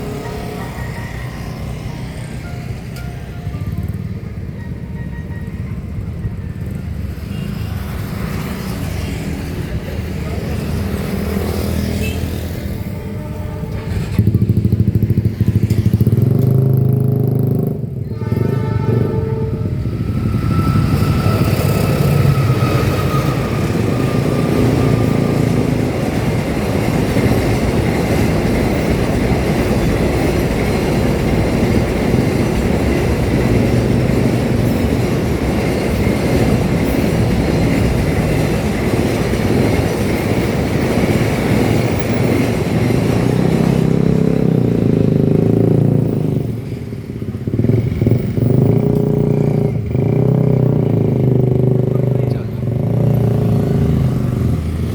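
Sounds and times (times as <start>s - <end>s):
motorcycle engines: 0.0s - 54.9s
train wheels rumbling on rails: 0.0s - 54.9s.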